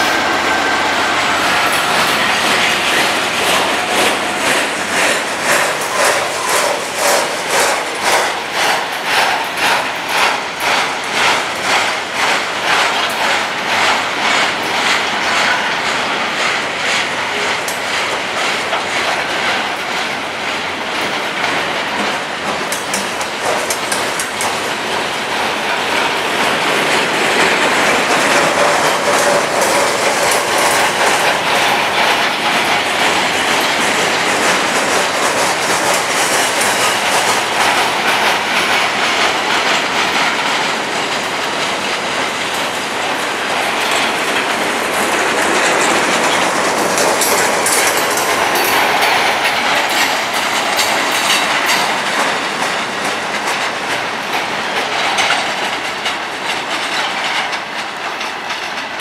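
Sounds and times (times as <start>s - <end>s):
freight train cars rolling: 0.0s - 59.0s
wheels clacking over rail joints: 0.0s - 59.0s.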